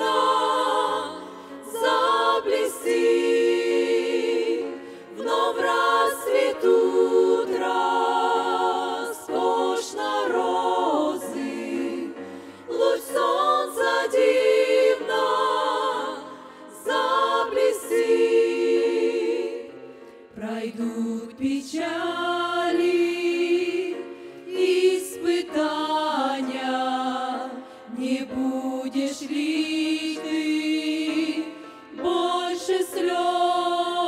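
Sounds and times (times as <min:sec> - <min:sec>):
women singing a cappella: 0:00.0 - 0:34.0.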